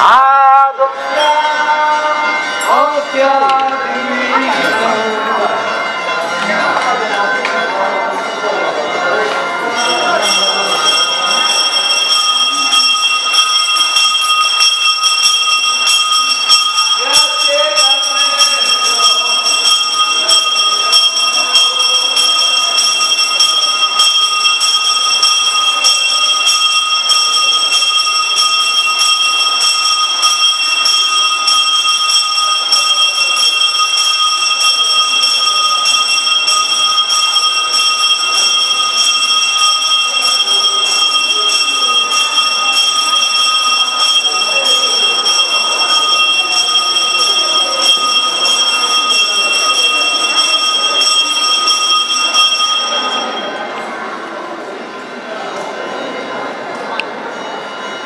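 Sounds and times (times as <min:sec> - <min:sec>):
bells ringing: 0:00.0 - 0:58.0
murmur of voices: 0:00.0 - 0:58.0.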